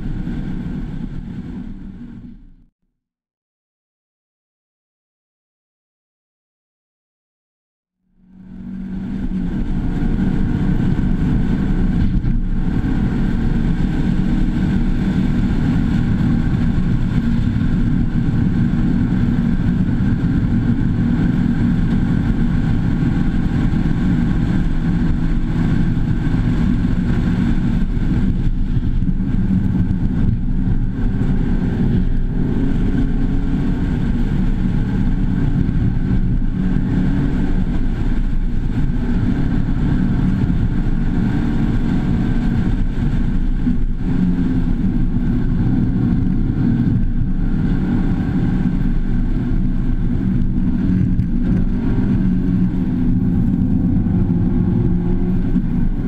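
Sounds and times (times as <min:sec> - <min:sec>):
road and wind noise: 0:00.0 - 0:02.7, 0:08.0 - 0:56.0
car engine pulling hard: 0:08.2 - 0:56.0.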